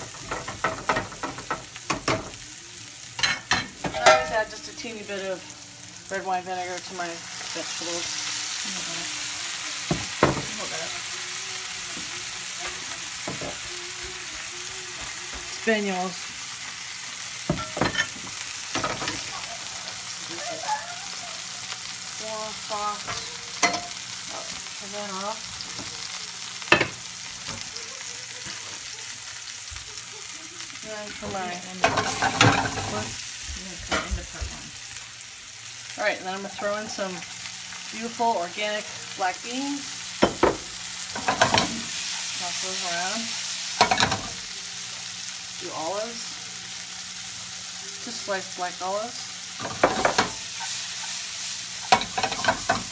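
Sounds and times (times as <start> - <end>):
hot oil sizzling in frying pans: 0.0 - 52.9.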